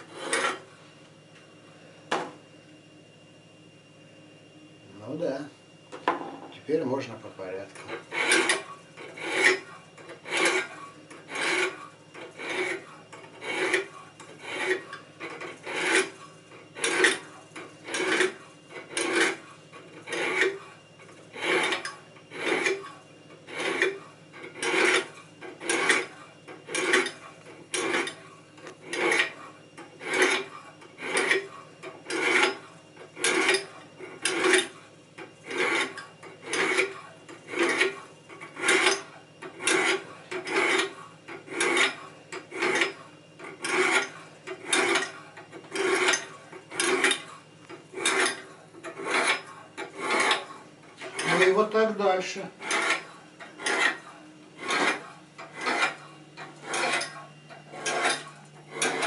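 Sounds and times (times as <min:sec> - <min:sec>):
blade scraping on sharpening stone: 0:00.0 - 0:00.7, 0:07.8 - 0:16.2, 0:16.8 - 0:19.4, 0:20.0 - 0:20.7, 0:21.3 - 0:34.7, 0:35.4 - 0:47.3, 0:47.9 - 0:51.5, 0:52.6 - 0:59.0.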